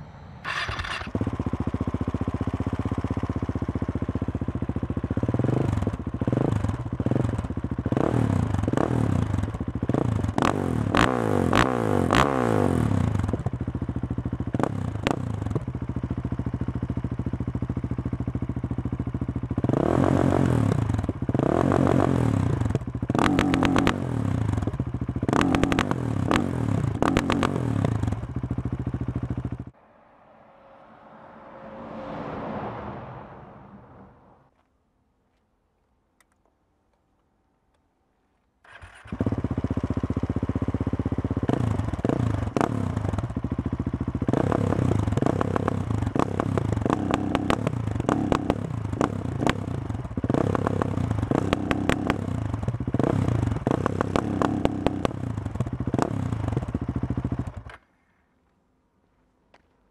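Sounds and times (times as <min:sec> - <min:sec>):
motorcycle engine revving: 0:00.0 - 0:34.5, 0:38.6 - 0:57.8.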